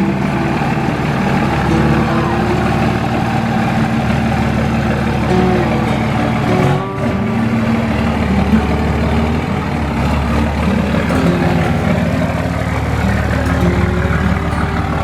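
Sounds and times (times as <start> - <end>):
pickup truck engine running: 0.0 - 15.0.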